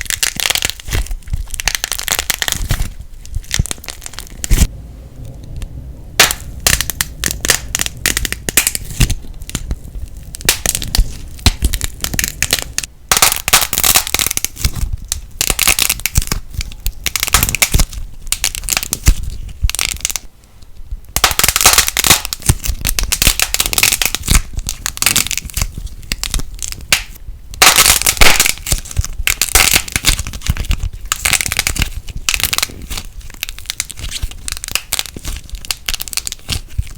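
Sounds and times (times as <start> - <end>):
plasticine crackling and popping: 0.0 - 4.7, 5.4 - 36.9.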